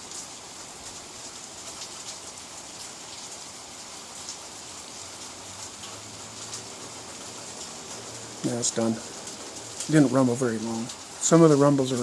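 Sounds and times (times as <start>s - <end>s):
light rain patter: 0.0s - 12.0s
water dripping: 0.0s - 12.0s.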